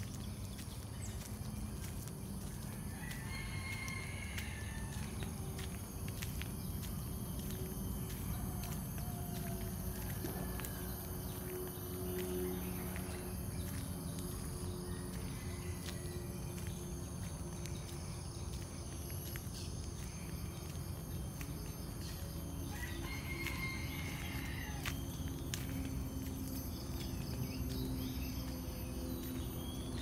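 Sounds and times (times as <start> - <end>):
footsteps on asphalt: 0.0 - 30.0
insects droning: 0.0 - 30.0.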